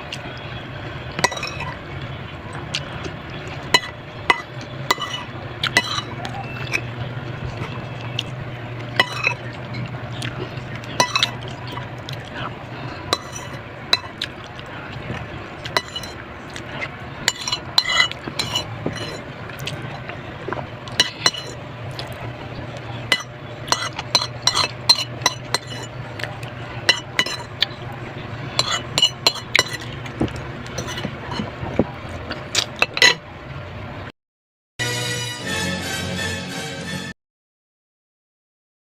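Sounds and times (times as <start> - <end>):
steady low hum: 0.0 - 34.1
utensils clinking on a plate: 1.1 - 1.8, 2.7 - 33.2.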